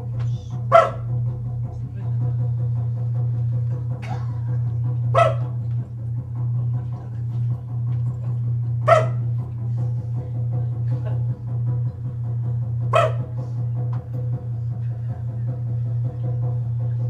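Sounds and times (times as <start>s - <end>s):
man humming low: 0.0s - 17.0s.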